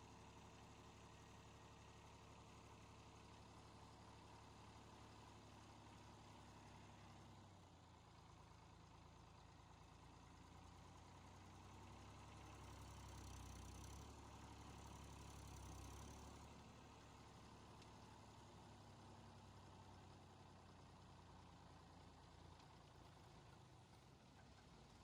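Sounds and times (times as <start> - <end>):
faint diesel engine idling: 0.2 - 25.0.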